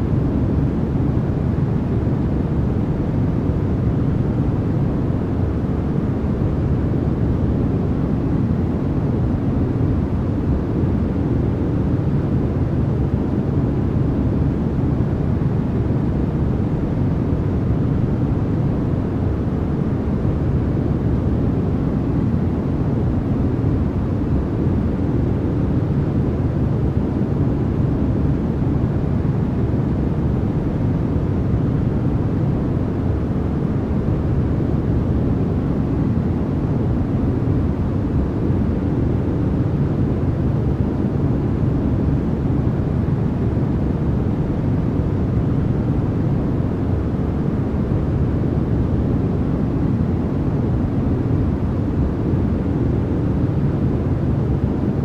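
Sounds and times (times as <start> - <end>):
deep rumbling white noise: 0.0 - 55.0.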